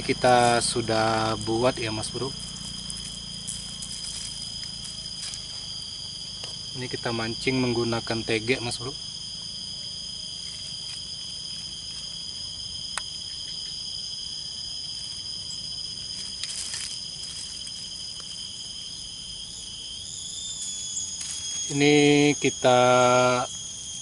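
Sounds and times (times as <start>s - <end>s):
low background hum: 0.0s - 22.6s
insects chirring: 0.0s - 24.0s.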